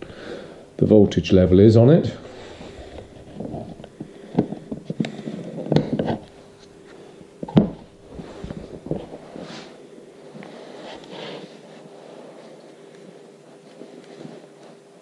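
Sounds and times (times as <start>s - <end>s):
handling rustles: 2.1s - 15.0s.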